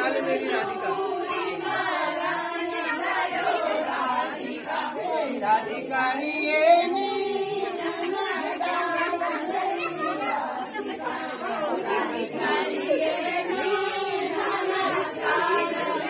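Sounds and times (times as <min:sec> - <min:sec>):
choir singing folk song: 0:00.0 - 0:16.0.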